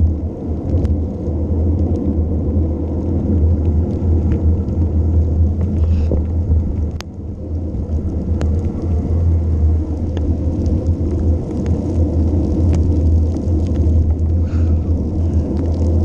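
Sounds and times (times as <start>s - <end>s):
bicycle clicks: 0.0s - 16.0s
wind and tyre noise: 0.0s - 16.0s.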